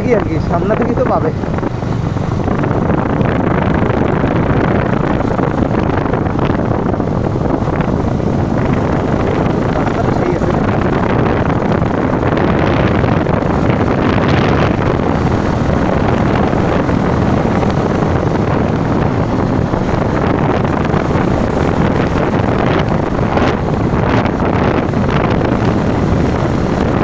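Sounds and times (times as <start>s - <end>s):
motorcycle road and engine noise: 0.0s - 27.0s
wind rush over microphone: 0.0s - 27.0s.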